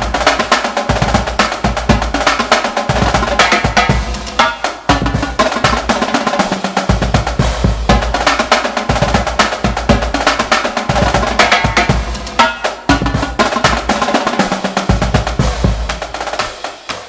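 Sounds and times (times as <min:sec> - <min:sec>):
sampled marching drumline: 0:00.0 - 0:17.0.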